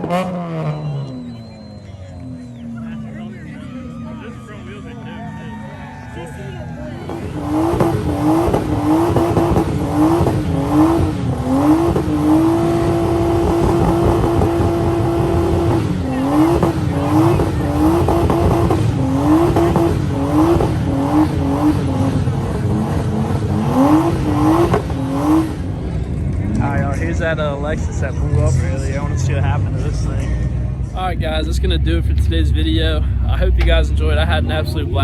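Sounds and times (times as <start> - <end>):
car engine revving: 0.0 - 5.5, 6.1 - 35.0.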